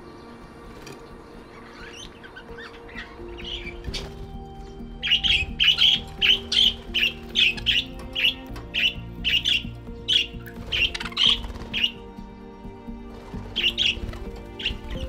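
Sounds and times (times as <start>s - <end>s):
background music: 0.0s - 15.0s
budgies chirping and squawking: 0.6s - 12.0s, 13.2s - 15.0s.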